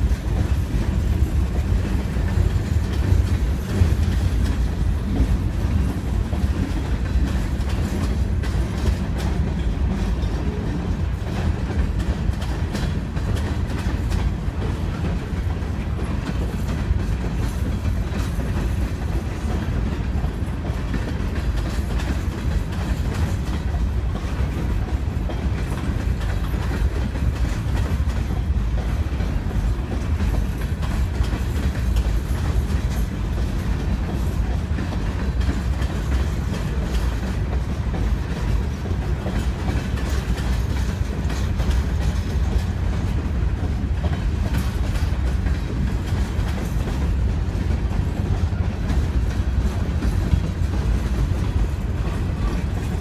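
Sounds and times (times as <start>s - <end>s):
freight train rumbling past: 0.0s - 53.0s
wheels clicking over rail joints: 0.0s - 53.0s.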